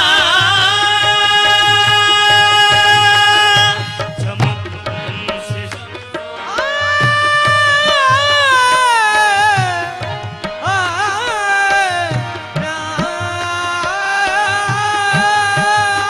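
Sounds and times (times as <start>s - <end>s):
harmonium drone: 0.0s - 16.0s
men singing: 0.0s - 16.0s
tabla strokes: 0.0s - 16.0s.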